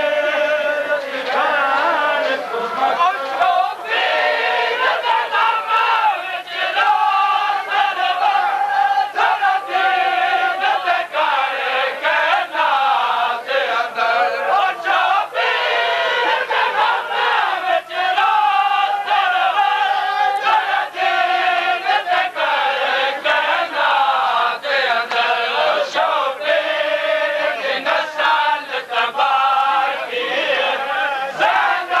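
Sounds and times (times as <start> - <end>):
men chanting together: 0.0 - 32.0.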